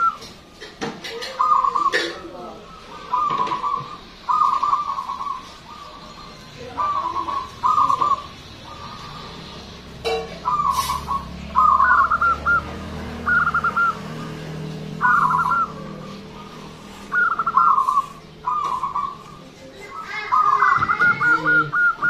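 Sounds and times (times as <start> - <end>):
dove cooing: 1.0 - 22.0.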